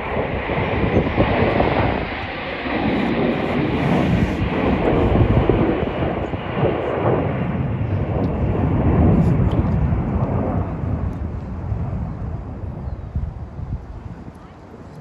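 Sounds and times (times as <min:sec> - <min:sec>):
fighter jet roaring past: 0:00.0 - 0:12.8.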